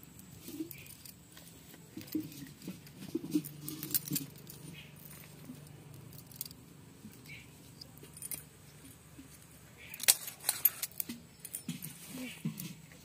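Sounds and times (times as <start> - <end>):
bangles clinking: 0.0 - 1.4, 2.0 - 12.0.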